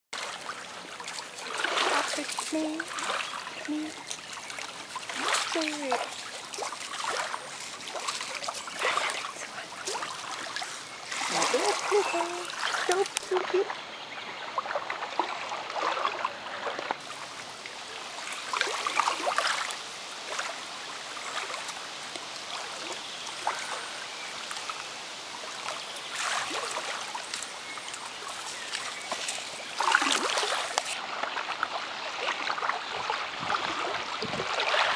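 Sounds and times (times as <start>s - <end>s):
water splashing from swimming dog: 0.2s - 13.7s, 14.6s - 34.9s.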